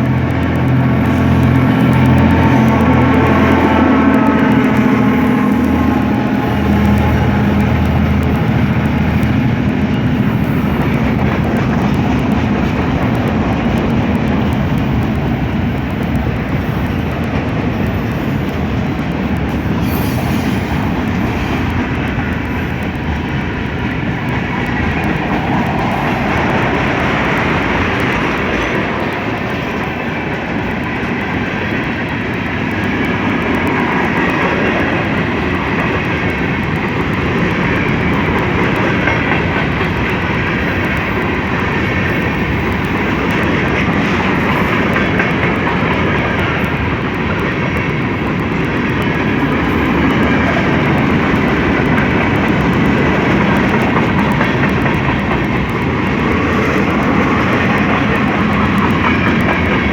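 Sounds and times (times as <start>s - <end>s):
freight train rumbling and clattering: 0.0s - 59.9s.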